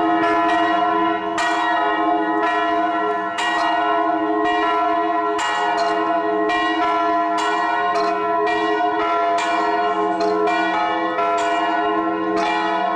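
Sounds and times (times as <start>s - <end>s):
church bells ringing: 0.0s - 12.9s.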